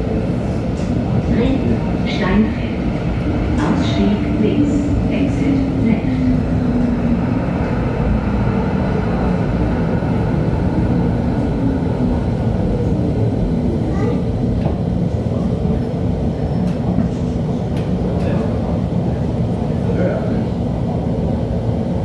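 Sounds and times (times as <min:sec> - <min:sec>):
tram drive hum: 0:00.0 - 0:22.0.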